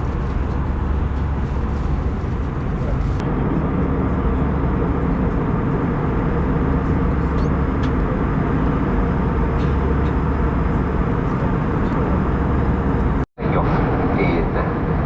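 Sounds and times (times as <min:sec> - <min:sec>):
airplane cabin airflow and engine drone: 0:00.0 - 0:15.0.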